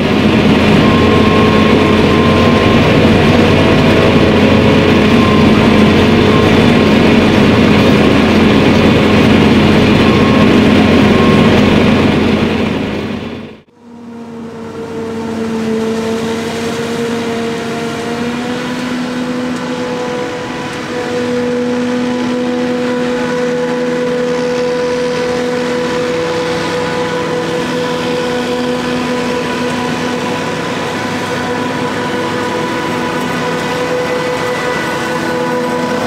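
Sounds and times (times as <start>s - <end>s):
forage harvester running: 0.0s - 36.0s.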